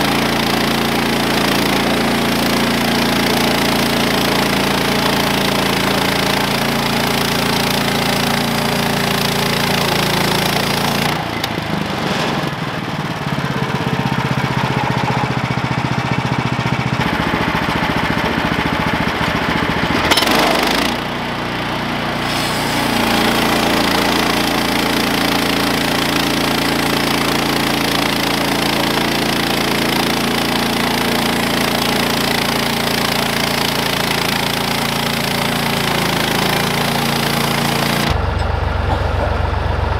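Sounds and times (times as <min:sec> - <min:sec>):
sawmill engine cutting log: 0:00.0 - 0:39.9.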